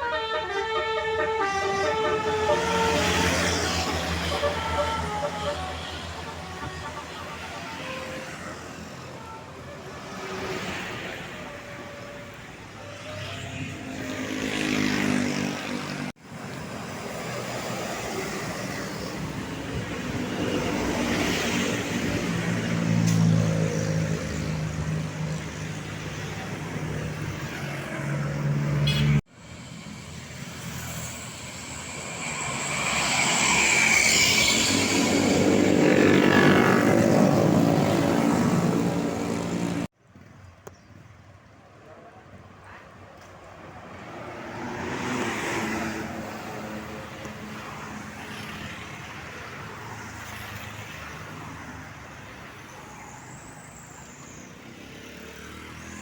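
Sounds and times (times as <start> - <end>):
buses driving past: 0.0 - 56.0.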